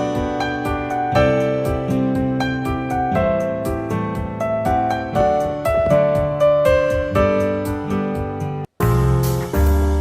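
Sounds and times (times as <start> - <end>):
keyboard melody: 0.0 - 10.0.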